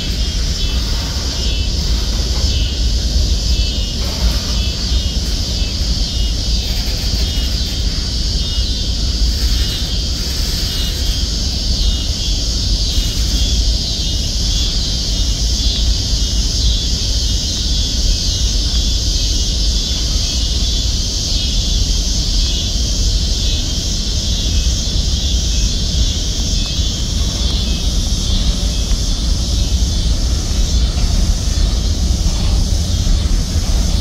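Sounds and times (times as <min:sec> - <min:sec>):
freight train wheels rumbling on rails: 0:00.0 - 0:34.0
high wheel and rail hiss: 0:00.0 - 0:34.0.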